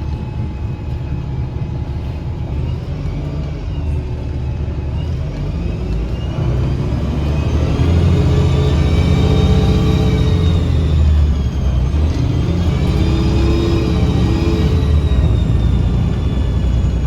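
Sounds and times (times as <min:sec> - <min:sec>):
bus engine drone: 0:00.0 - 0:17.0
transmission whine rising: 0:00.0 - 0:17.0.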